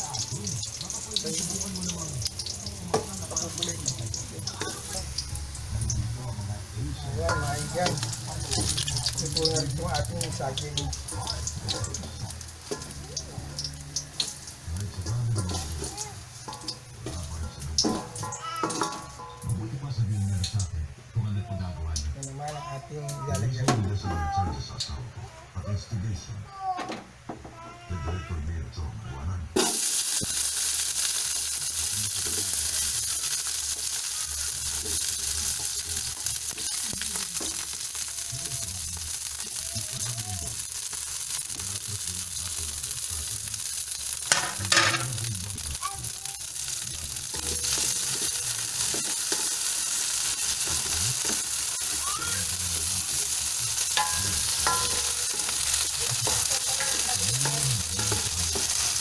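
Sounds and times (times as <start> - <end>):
oil crackle: 0.0 - 19.6, 29.6 - 59.0
beans sizzling in hot oil: 0.0 - 20.7, 29.6 - 59.0.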